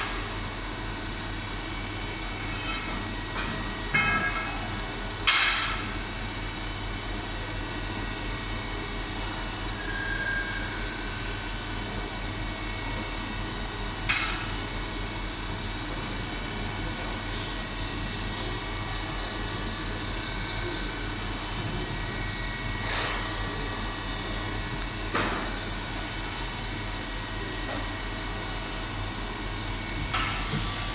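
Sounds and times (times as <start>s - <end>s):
milling machine whining hum: 0.0s - 30.9s.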